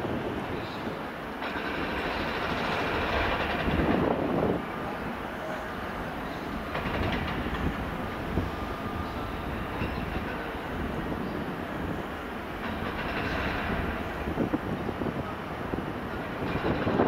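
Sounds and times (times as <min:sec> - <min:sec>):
diesel locomotive engine running: 0:00.0 - 0:17.0
wheels clattering over crossings: 0:01.4 - 0:04.6, 0:06.0 - 0:17.0.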